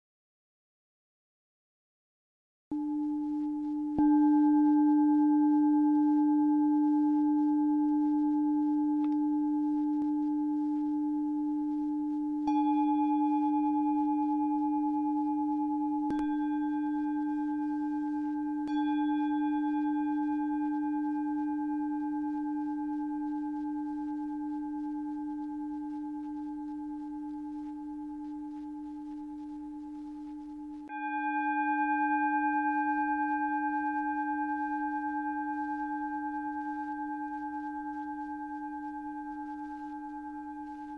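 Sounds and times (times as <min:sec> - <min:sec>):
singing bowl ringing: 0:02.8 - 0:40.9.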